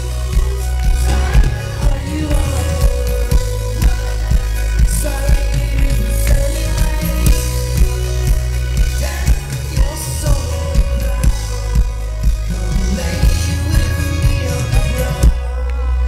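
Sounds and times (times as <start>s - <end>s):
electropop band playing live: 0.0s - 16.0s
low bass hum: 0.0s - 16.0s
man singing: 0.0s - 16.0s.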